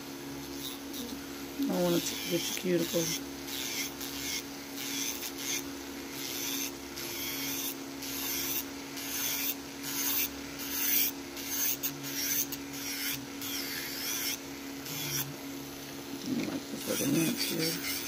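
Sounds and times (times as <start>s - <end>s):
nail file rasping: 1.9s - 15.3s, 16.8s - 18.0s.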